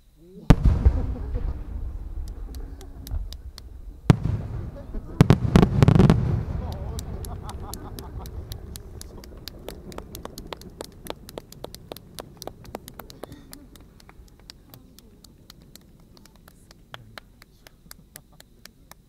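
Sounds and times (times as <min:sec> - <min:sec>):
fireworks rumble: 0:00.0 - 0:19.0.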